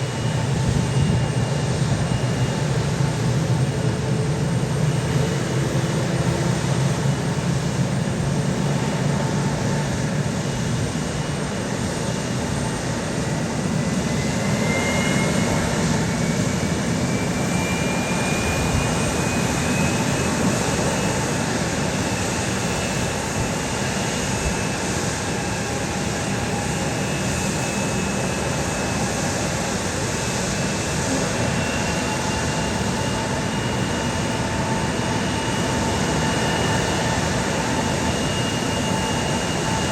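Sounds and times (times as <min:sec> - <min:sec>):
high turbine whine: 0:00.0 - 0:39.9
jet engines roaring: 0:00.0 - 0:39.9.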